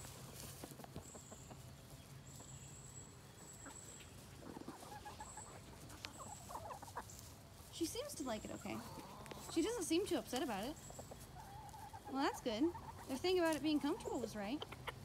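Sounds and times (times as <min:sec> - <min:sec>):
chickens clucking softly: 0:00.0 - 0:07.7, 0:08.4 - 0:15.0.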